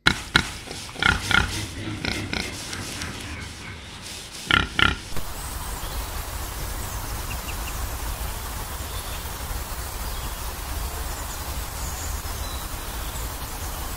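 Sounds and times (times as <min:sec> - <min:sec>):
low rumble: 0:00.2 - 0:13.9.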